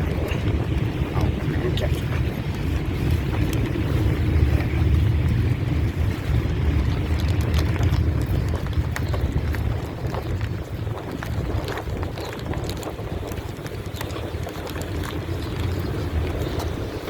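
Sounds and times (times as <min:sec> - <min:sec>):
bus engine rumble from inside: 0:00.0 - 0:17.0
rattles and clicks: 0:00.0 - 0:17.0.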